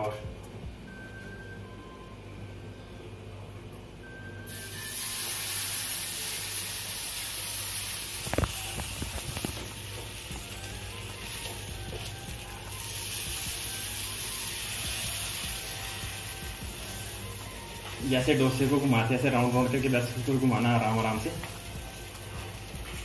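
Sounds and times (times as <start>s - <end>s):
batter sizzling on a hot pan: 4.5s - 23.0s.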